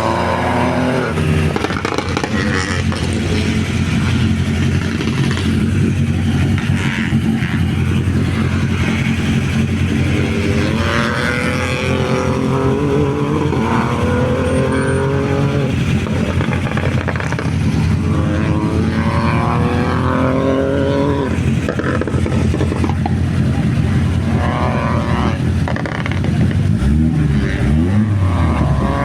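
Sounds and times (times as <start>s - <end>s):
rally car engine revving: 0.0s - 29.0s
steady low engine note: 0.0s - 29.0s.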